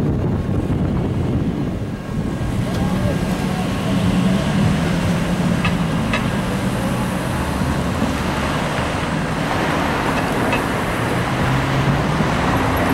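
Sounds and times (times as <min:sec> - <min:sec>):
traffic rumble of tyres and engines: 0:00.0 - 0:12.9.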